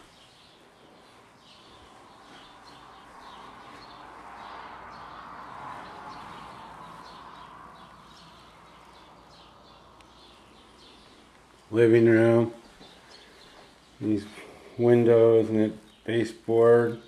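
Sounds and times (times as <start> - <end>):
soft rushing noise: 0.0 - 15.6
bird chirping: 0.0 - 17.0.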